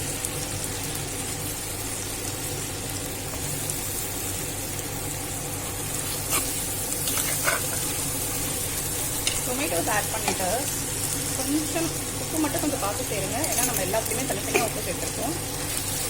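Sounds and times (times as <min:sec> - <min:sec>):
onions sizzling in a pot: 0:00.0 - 0:16.0.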